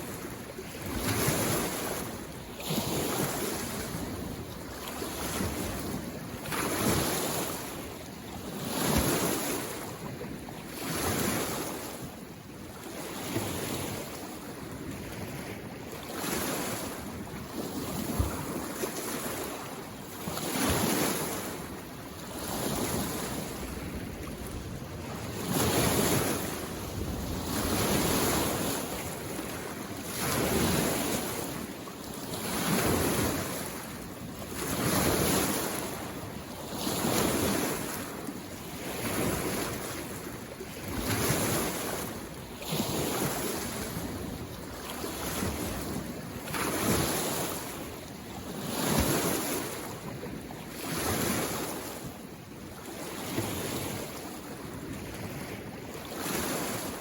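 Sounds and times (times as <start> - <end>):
small waves washing on shore: 0.0 - 57.0.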